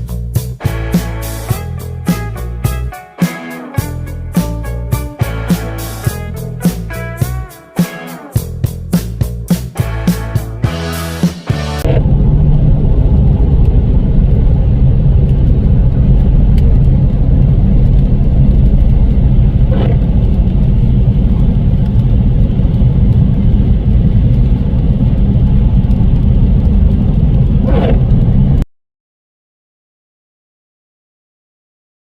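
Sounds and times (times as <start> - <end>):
car engine and road rumble: 0.0 - 3.0, 3.8 - 7.6, 8.3 - 28.6.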